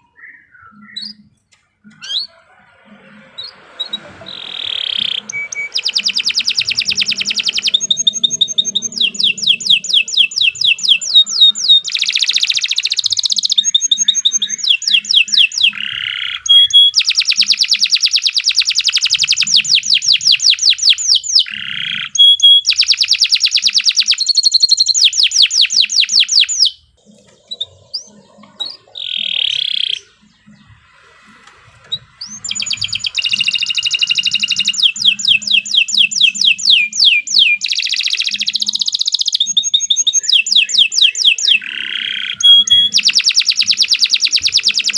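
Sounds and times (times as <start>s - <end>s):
canary trilling: 0.0s - 44.9s.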